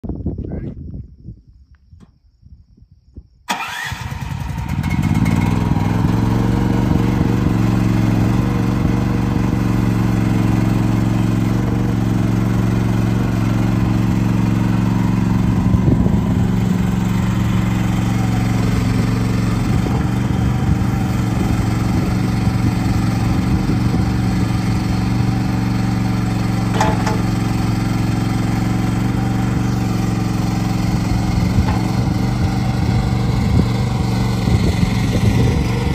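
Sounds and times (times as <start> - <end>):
excavator engine running: 3.5 - 35.9.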